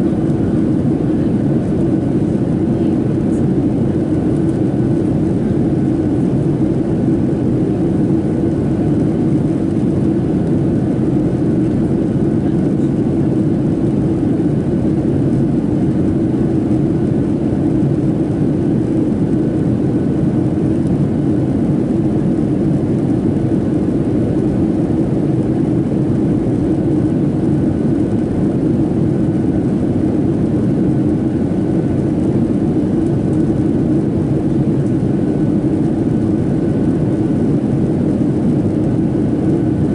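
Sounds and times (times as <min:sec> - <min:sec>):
airplane cabin engine roar: 0:00.0 - 0:39.9
faint steady whine: 0:00.0 - 0:39.9.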